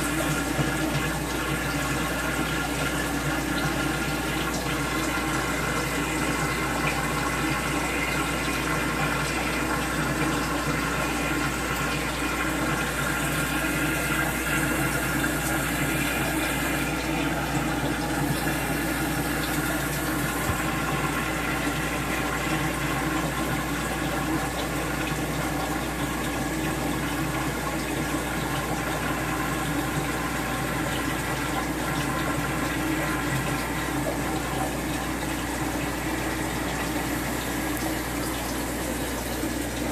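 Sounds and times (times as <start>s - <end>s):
aquarium water splashing: 0.0s - 39.9s.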